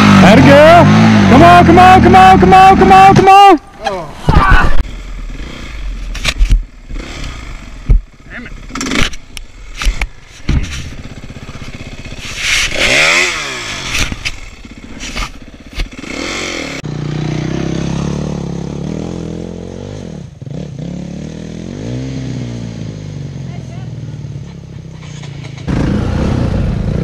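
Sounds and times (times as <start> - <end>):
dirt bike engine revving: 0.0 - 3.6, 4.6 - 23.5, 25.0 - 27.0.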